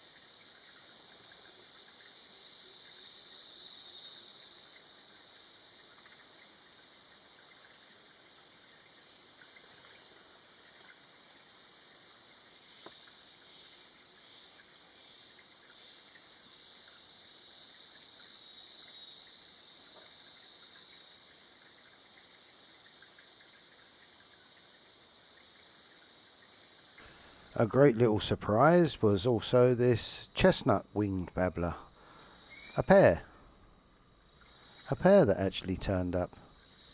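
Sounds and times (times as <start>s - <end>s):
insects chorus: 0.0s - 36.9s.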